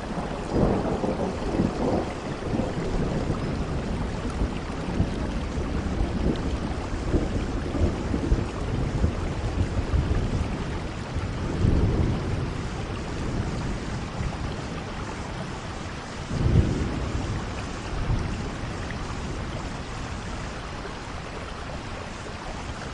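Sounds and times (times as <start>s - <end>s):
steady rainfall: 0.0s - 22.9s.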